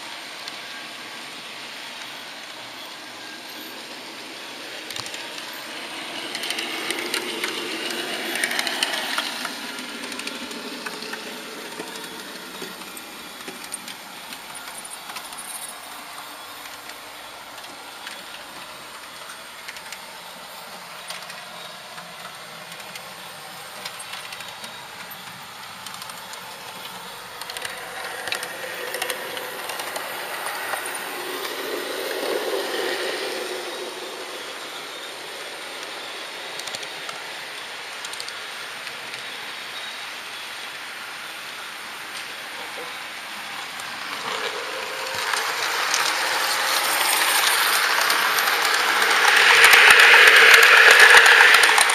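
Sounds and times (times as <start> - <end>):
model train rolling on track: 0.0 - 51.9.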